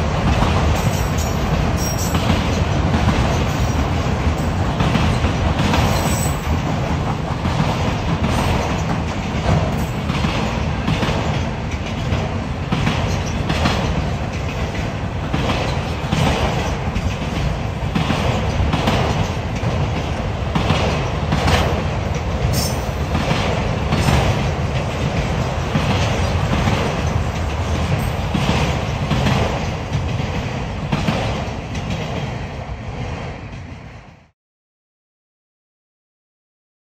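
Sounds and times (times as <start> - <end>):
train wheels clacking over rail joints: 0.0 - 33.9
freight train rumble: 0.0 - 34.3.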